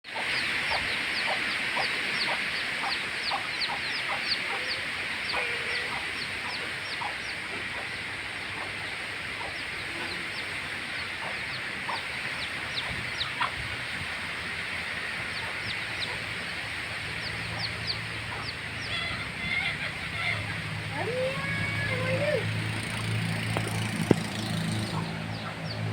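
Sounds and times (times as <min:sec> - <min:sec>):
steady hiss: 0:00.1 - 0:24.9
chicks peeping: 0:00.1 - 0:25.9.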